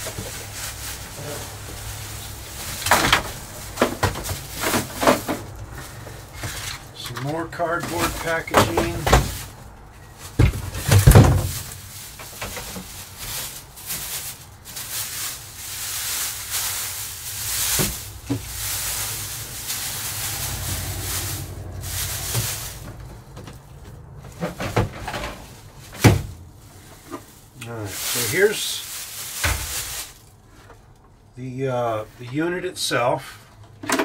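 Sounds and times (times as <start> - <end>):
plastic wrap crinkling: 0.0 - 24.8, 25.4 - 31.0.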